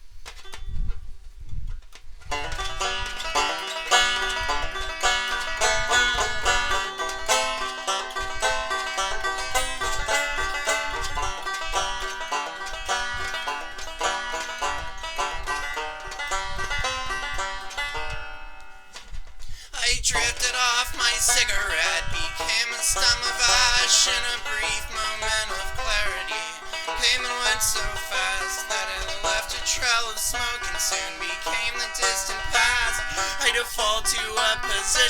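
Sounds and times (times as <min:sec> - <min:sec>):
low thumps: 0:00.8 - 0:35.0
plucked string instrument: 0:01.9 - 0:19.3, 0:20.1 - 0:35.0.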